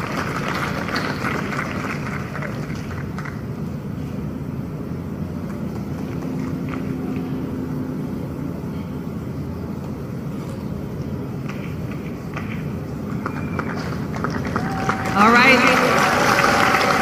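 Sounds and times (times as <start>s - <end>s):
stadium ambience rumble: 0.0s - 17.0s.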